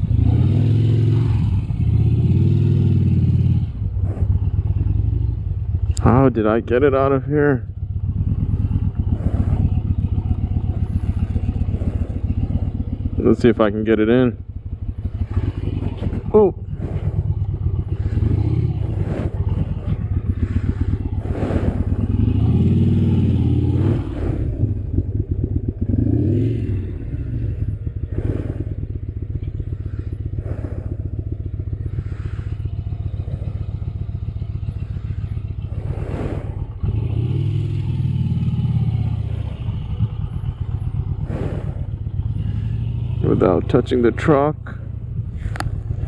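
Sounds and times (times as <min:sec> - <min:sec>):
motorcycle engine idling: 0:00.0 - 0:46.0
motorcycle throttle blips: 0:00.0 - 0:46.0.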